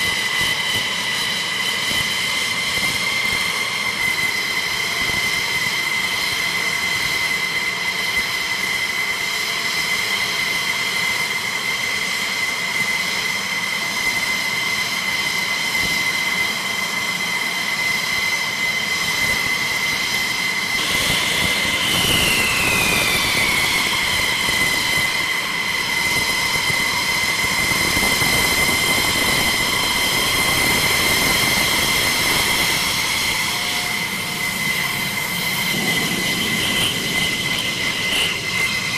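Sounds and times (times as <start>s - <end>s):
jet engine whine falling in pitch: 0.0s - 38.9s
jet engines idling: 0.0s - 38.9s.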